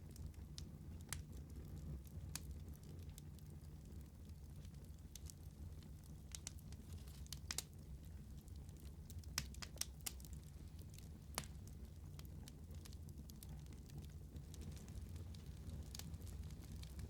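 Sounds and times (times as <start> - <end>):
fire popping and crackling: 0.0 - 17.0
wood fire rumbling: 0.0 - 17.0.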